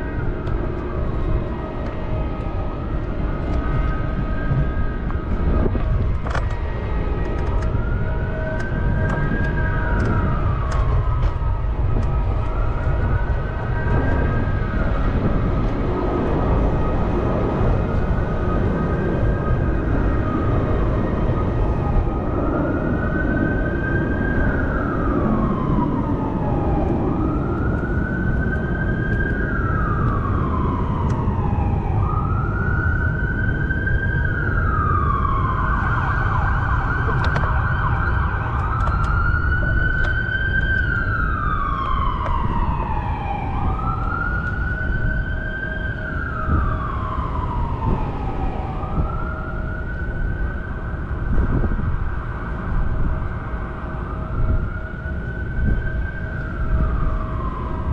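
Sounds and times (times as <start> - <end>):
emergency vehicle siren wailing: 0.0 - 57.9
traffic rumble: 0.0 - 57.9
wind: 0.0 - 57.9.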